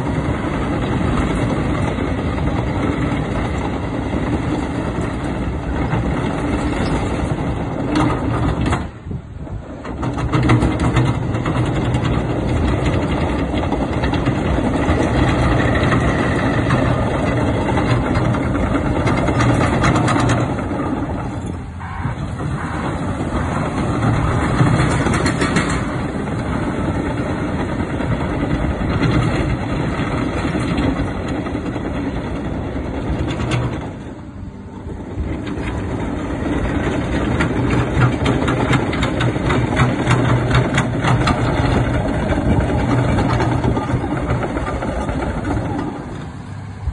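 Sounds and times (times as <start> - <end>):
track loader diesel engine: 0.0 - 46.9.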